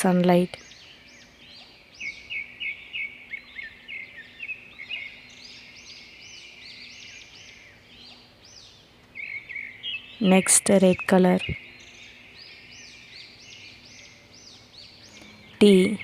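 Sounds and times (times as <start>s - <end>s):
faint steady hum: 0.0s - 16.0s
small birds chirping: 0.0s - 16.0s.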